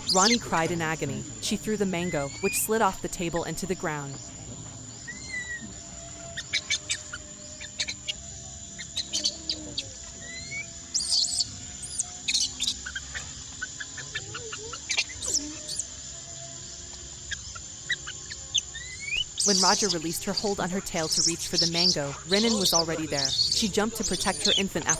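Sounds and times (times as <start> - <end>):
steady high-pitched hum: 0.0 - 14.0, 14.8 - 24.9
birds chirping: 0.0 - 14.2, 18.8 - 24.9.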